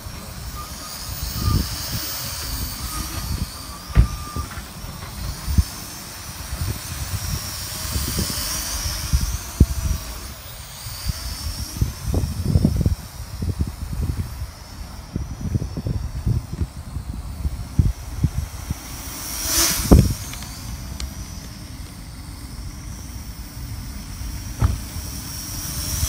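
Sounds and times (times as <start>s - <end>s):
wind buffeting microphone: 0.0s - 23.0s
drone propellers whining: 0.0s - 26.0s.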